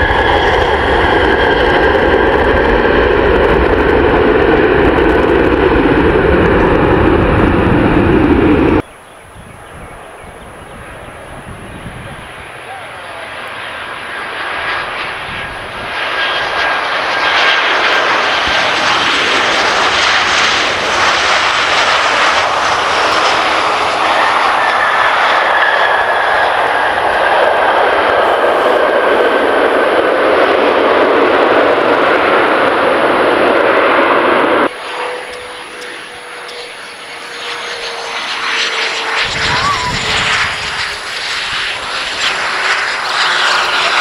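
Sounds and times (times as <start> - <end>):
airliner jet engines rushing: 0.0 - 44.0
small jet whine: 0.0 - 44.0.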